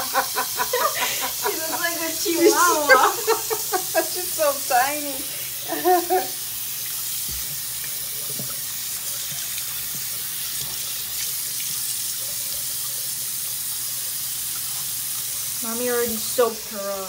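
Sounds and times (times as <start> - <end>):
faucet water splashing: 0.0 - 17.0.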